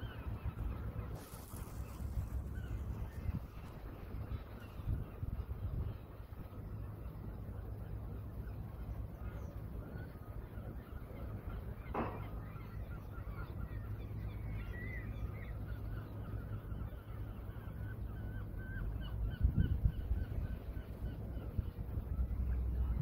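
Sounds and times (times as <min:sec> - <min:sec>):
steady low rumble: 0:00.0 - 0:15.2, 0:18.8 - 0:23.0
birds calling: 0:00.0 - 0:23.0.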